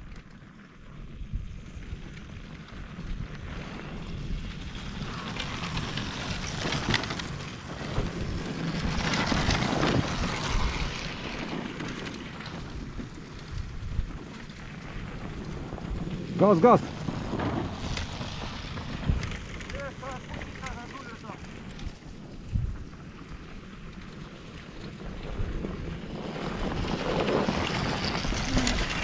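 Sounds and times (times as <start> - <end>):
wind buffeting microphone: 0.9 - 29.0.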